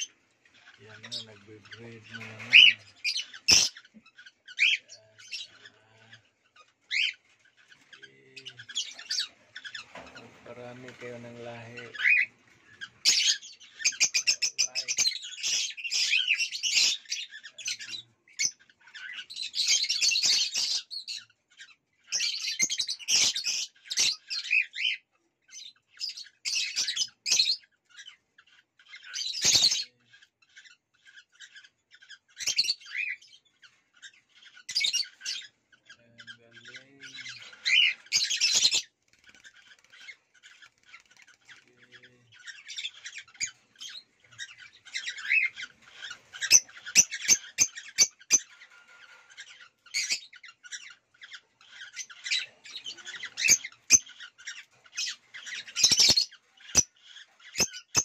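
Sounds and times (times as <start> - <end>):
cockatiels chattering and squawking: 0.0 - 58.0.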